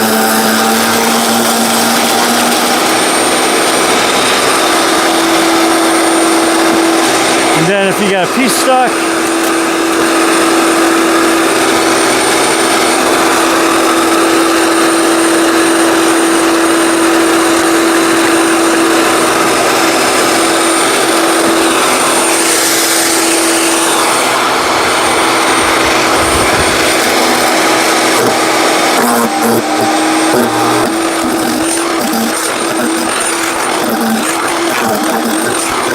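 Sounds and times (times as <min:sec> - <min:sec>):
wood chipper whirring: 0:00.0 - 0:35.9.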